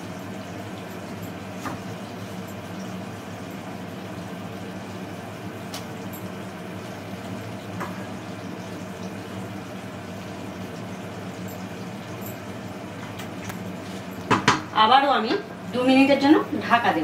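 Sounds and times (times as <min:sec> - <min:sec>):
gravy bubbling in a pan: 0:00.0 - 0:14.7.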